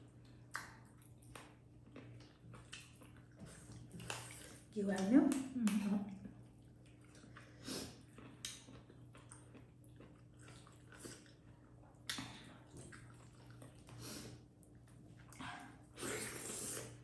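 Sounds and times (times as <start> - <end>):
chewing with wet smacks: 0.0 - 15.9.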